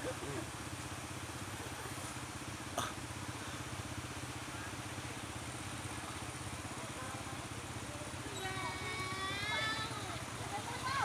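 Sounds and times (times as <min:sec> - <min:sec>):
quad bike engines idling: 0:00.0 - 0:11.0.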